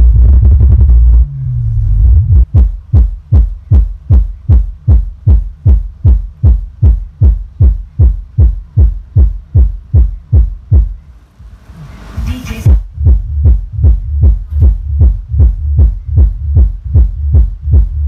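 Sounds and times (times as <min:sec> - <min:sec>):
deep bass kick thumps: 0:00.0 - 0:11.6, 0:12.6 - 0:18.0.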